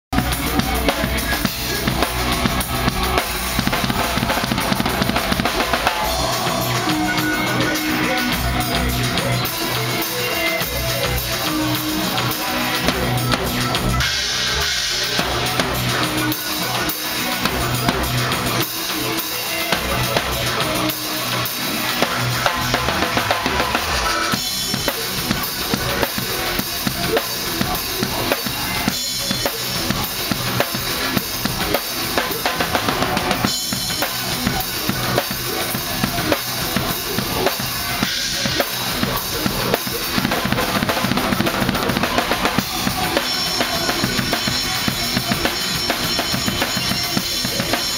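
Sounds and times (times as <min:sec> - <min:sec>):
drum kit playing: 0:00.1 - 0:47.9.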